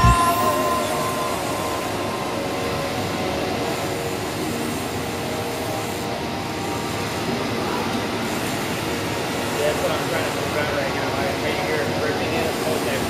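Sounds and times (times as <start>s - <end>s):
digital cutter machine hiss: 0.0s - 13.0s.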